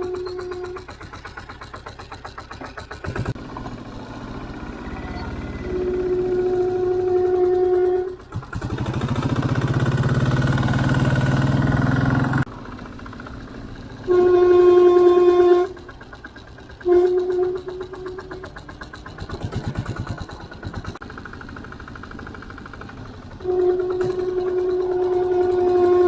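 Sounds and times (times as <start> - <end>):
brake squealing: 0.0 - 21.0, 21.6 - 26.0
engine pulling away: 0.0 - 26.0.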